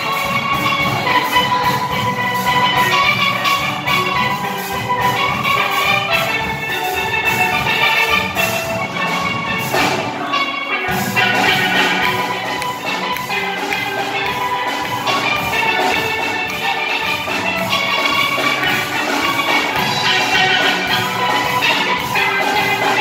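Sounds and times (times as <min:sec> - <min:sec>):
steel pan band playing: 0:00.0 - 0:23.0.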